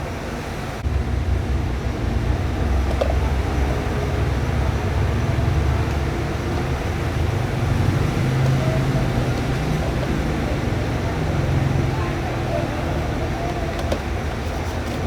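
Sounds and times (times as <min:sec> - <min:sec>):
low rumble of machinery: 0:00.0 - 0:15.0.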